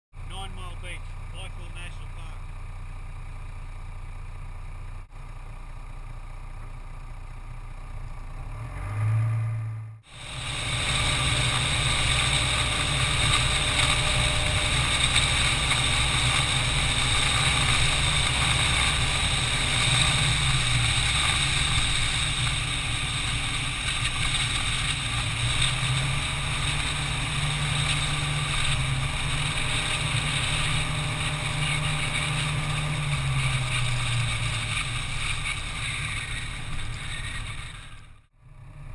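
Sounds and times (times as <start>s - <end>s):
vehicle engine running: 0.2s - 38.9s.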